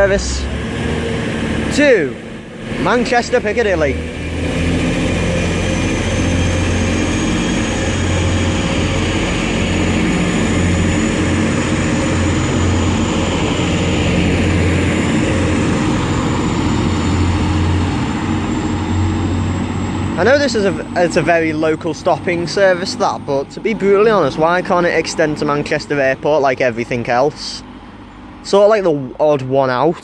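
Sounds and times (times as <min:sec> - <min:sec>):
diesel train engine droning: 0:00.0 - 0:30.0.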